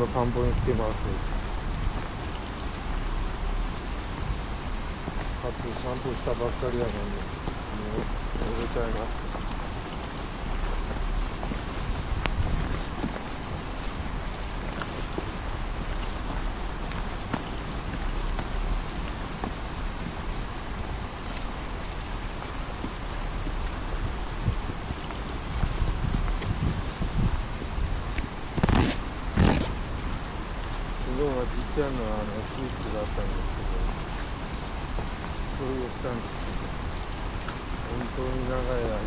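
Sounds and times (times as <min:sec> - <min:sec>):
heavy rain on pavement: 0:00.0 - 0:39.0
raindrops ticking: 0:00.0 - 0:39.0.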